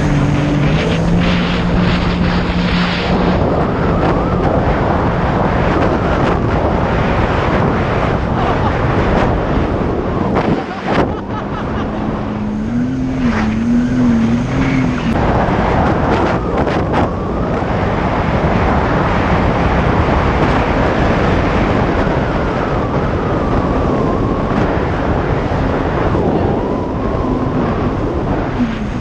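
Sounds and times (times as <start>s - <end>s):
jet ski engine: 0.0s - 29.0s
wind and water rushing on microphone: 0.0s - 29.0s.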